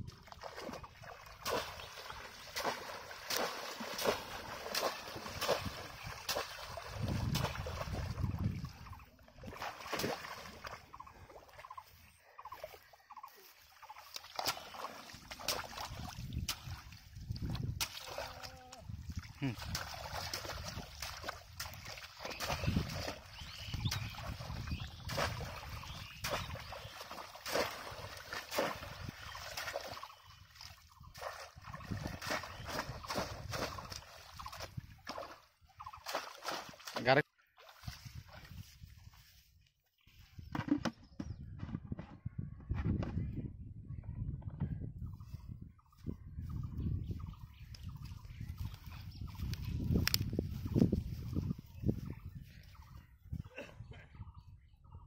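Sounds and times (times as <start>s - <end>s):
muddy water splashing: 0.0s - 39.5s, 46.3s - 53.1s.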